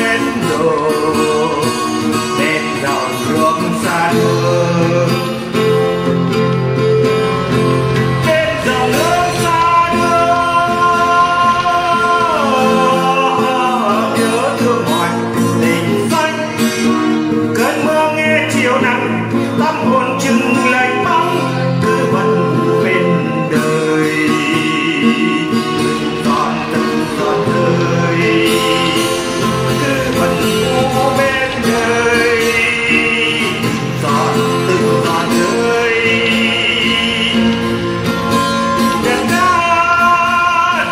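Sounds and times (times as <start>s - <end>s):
acoustic guitar: 0.0s - 40.9s
person singing slow song: 0.0s - 40.9s.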